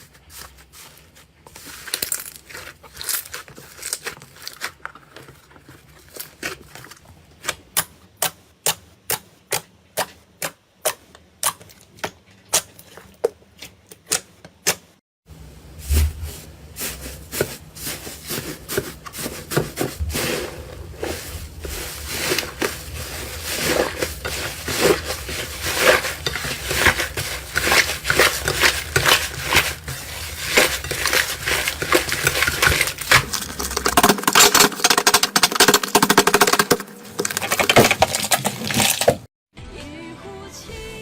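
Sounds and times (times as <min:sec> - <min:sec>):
slime squishing: 0:00.0 - 0:14.9, 0:15.9 - 0:35.8.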